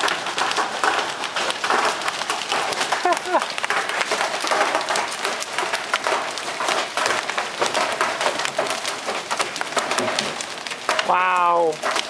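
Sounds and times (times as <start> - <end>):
hailstones pelting ground and trees: 0.0 - 12.0.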